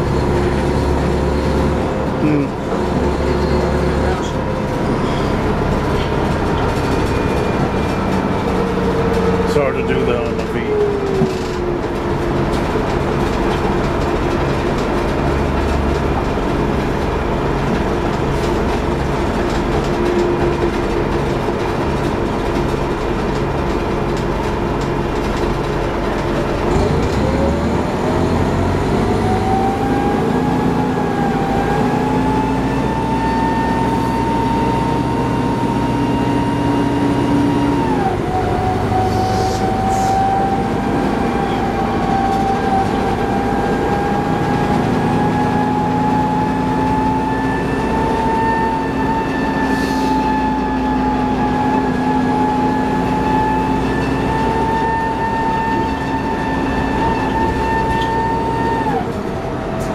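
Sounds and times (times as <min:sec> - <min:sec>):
bus engine and road noise: 0:00.0 - 0:59.9
drivetrain whine: 0:00.0 - 0:59.9.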